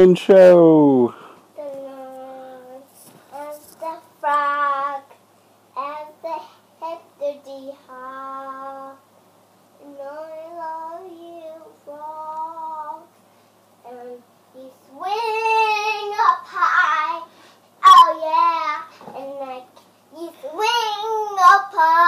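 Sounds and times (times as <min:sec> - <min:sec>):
girl singing long notes: 0:01.6 - 0:05.2, 0:05.8 - 0:09.0, 0:09.8 - 0:13.1, 0:13.8 - 0:22.0.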